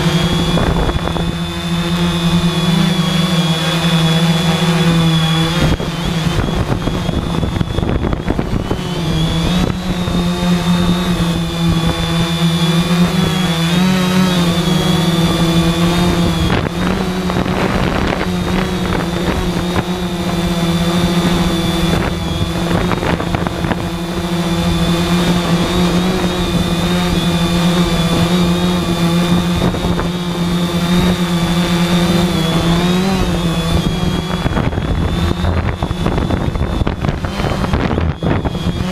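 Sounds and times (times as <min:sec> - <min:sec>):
quadcopter motors whining hum: 0:00.0 - 0:38.9
wind buffeting microphone: 0:00.0 - 0:38.9.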